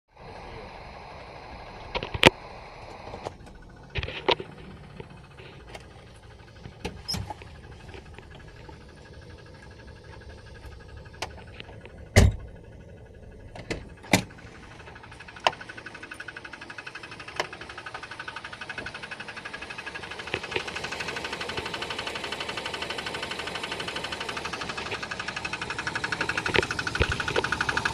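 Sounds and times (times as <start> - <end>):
engine ticking: 0.2 - 27.9.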